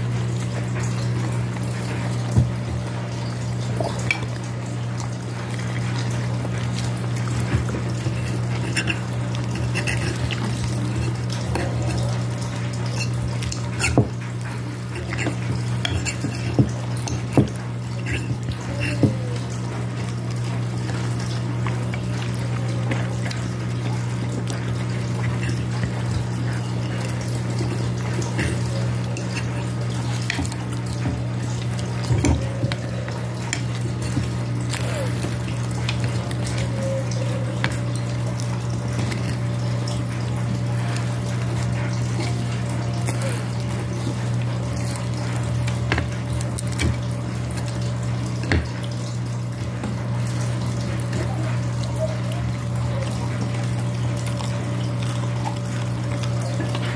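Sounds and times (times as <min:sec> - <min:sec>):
dog eating: 0:00.0 - 0:56.9
low hum with hiss: 0:00.0 - 0:56.9.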